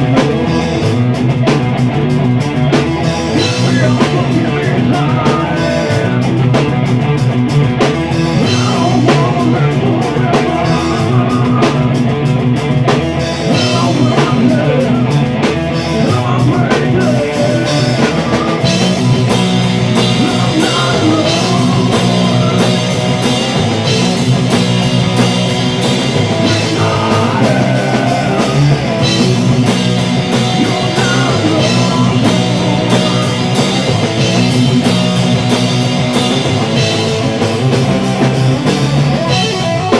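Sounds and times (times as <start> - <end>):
drum kit: 0.0 - 39.9
electric bass guitar: 0.0 - 39.9
electric guitar: 0.0 - 39.9.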